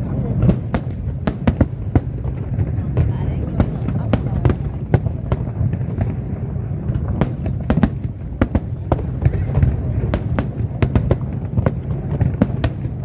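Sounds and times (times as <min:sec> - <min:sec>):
fireworks cracks and bangs: 0:00.0 - 0:13.0
low rumble of shells bursting: 0:00.0 - 0:13.0.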